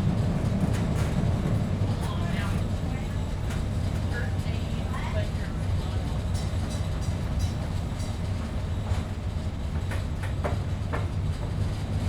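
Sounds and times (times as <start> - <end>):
streetcar rumbling on rails: 0.0 - 12.0.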